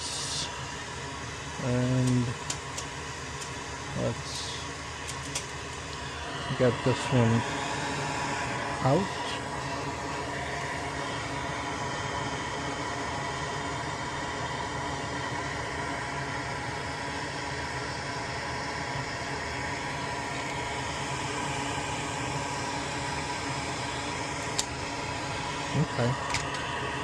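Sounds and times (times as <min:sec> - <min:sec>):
small electric blower whirring: 0:00.0 - 0:27.0.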